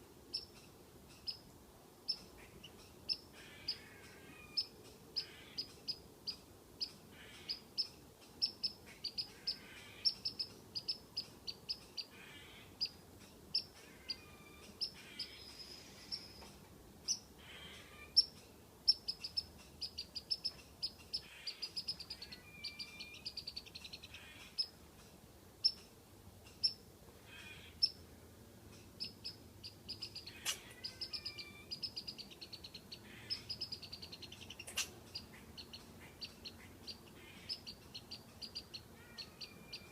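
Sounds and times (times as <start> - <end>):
squirrel alarm chirps: 0.3 - 1.4, 2.1 - 24.8, 26.5 - 28.0, 29.0 - 39.9.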